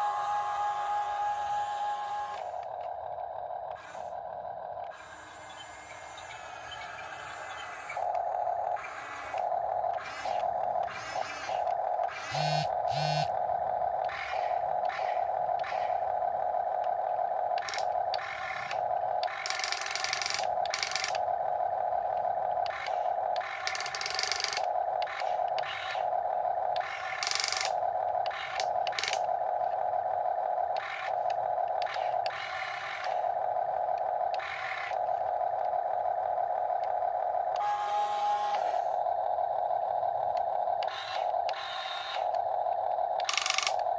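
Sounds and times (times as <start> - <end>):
electric motors whining: 0.0 - 43.9
harsh high gear noise: 0.0 - 43.9.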